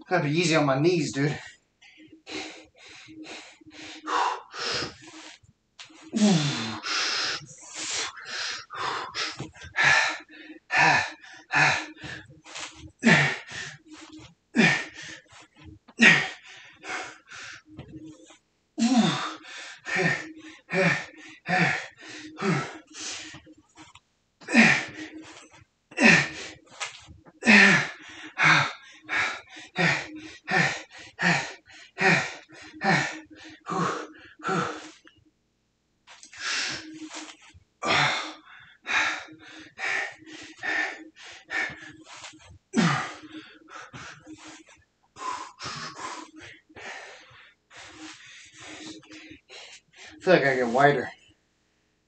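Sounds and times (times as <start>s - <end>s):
man breathing hard: 1.2s - 26.8s, 27.4s - 35.1s, 36.2s - 51.2s.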